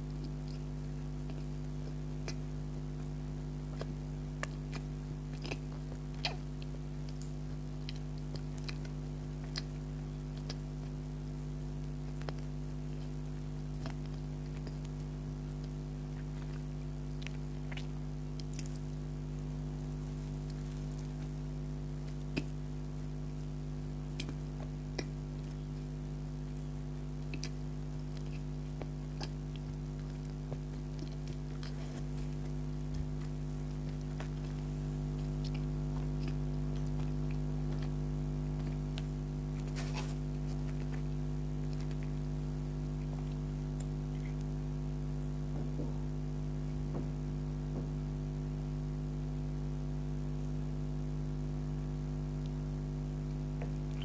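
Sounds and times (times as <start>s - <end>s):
person chewing: 0.0s - 23.4s, 24.0s - 44.6s
low hum: 0.0s - 54.0s.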